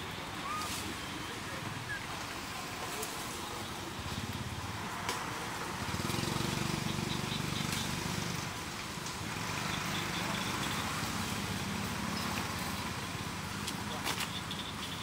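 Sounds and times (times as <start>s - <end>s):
outdoor ambience: 0.0s - 15.0s.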